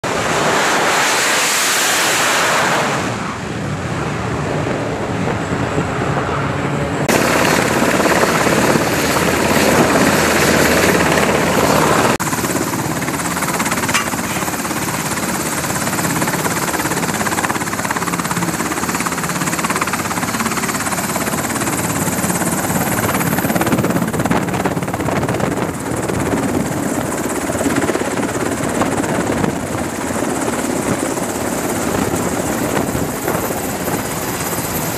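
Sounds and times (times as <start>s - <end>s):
helicopter rotors and turbines: 0.0s - 34.9s
jet engines at high power: 0.0s - 34.9s.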